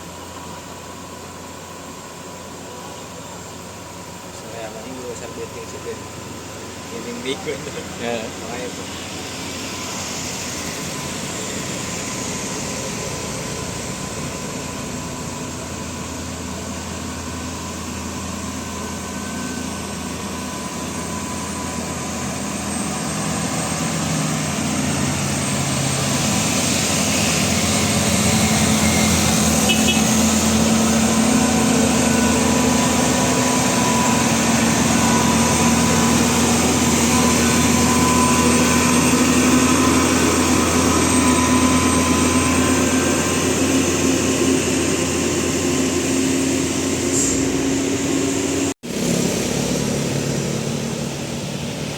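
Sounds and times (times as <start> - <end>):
heavy diesel engines labouring uphill: 0.0 - 51.9.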